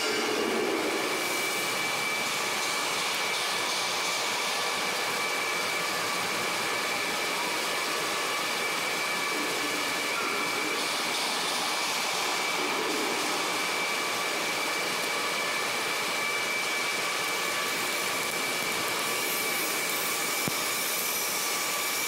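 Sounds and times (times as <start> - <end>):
high-pitched whine: 0.0 - 22.0
machinery hiss and hum: 0.0 - 22.0.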